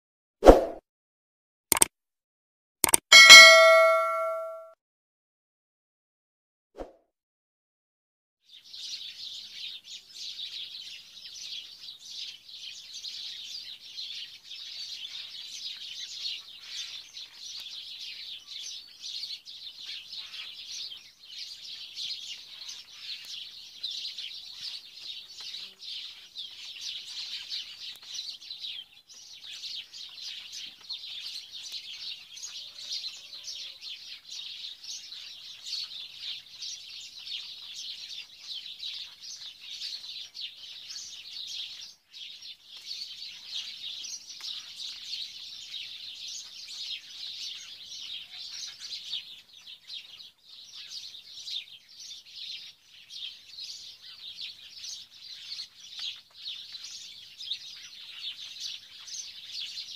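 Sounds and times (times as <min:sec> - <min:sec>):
chorus of bird chirping: 0:03.1 - 0:04.6, 0:08.5 - 0:59.9.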